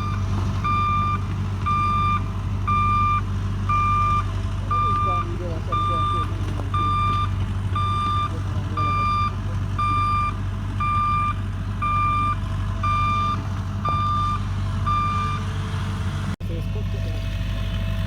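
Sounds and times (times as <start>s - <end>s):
excavator warning alarm beeping: 0.0s - 15.5s
diesel engine hum: 0.0s - 18.0s.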